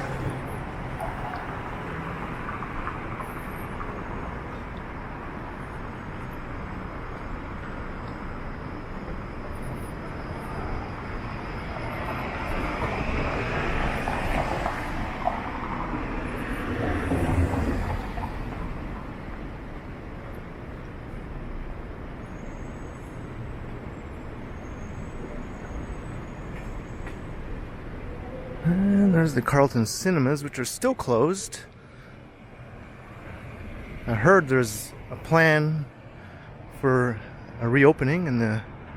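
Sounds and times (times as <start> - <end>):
background traffic hum: 0.0 - 38.9.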